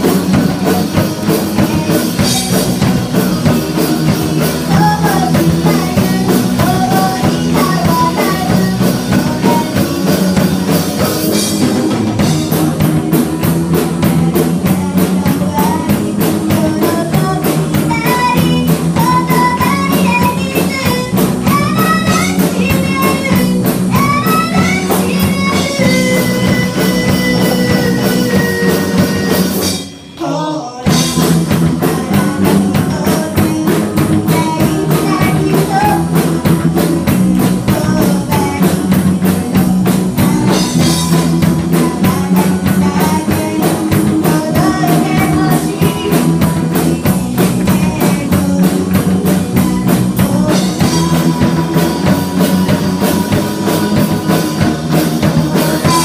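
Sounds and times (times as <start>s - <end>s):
bass guitar: 0.0s - 56.0s
drum kit: 0.0s - 56.0s
electric guitar: 0.0s - 56.0s
person singing: 0.0s - 56.0s.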